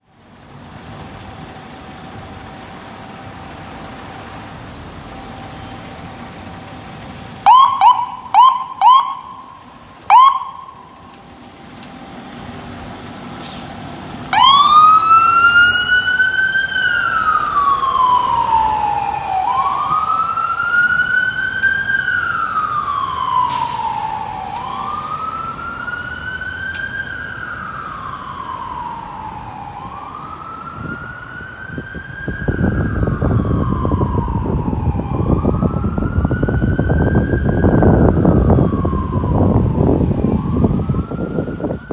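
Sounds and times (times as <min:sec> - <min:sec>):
fire engine siren wailing: 0:00.5 - 0:41.9.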